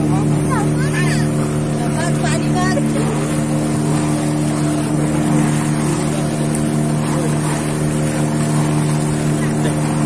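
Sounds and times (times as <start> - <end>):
boat engine running: 0.0 - 10.0
hiss of water and wind: 0.0 - 10.0.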